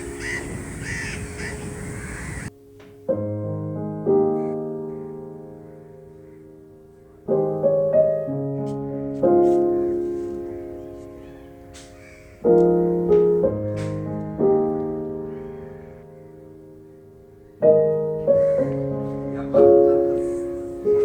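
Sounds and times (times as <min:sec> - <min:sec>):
crows cawing: 0:00.0 - 0:02.5, 0:04.3 - 0:07.3, 0:08.6 - 0:21.0
slow piano chords: 0:00.0 - 0:21.0.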